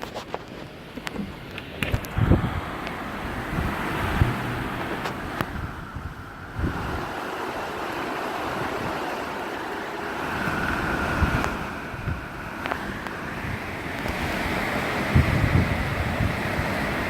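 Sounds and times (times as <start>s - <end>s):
strong wind buffeting microphone: 0.0s - 17.0s
wind whistle: 1.9s - 17.0s.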